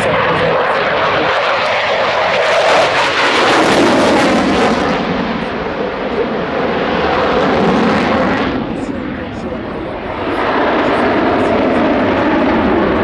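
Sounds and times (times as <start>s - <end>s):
jet flying past in afterburner: 0.0s - 13.0s.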